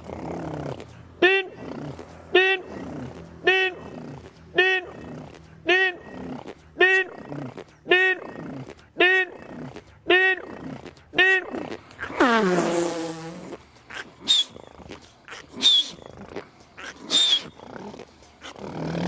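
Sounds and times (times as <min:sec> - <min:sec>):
man imitating truck engine: 0:00.0 - 0:19.0.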